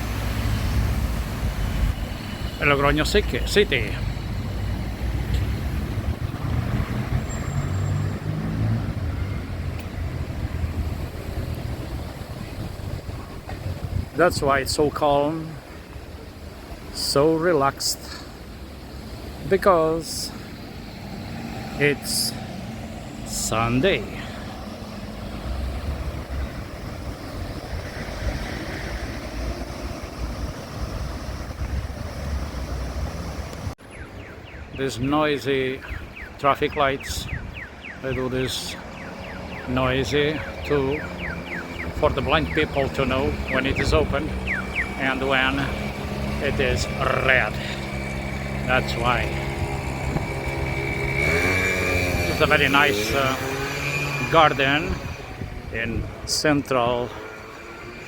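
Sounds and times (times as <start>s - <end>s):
car passing: 0.0s - 14.7s, 18.0s - 34.6s, 37.6s - 58.0s
wind rumbling on microphone: 0.0s - 15.0s, 22.4s - 35.2s, 35.8s - 38.0s, 40.2s - 58.0s
steady rushing outdoor noise: 0.0s - 58.0s.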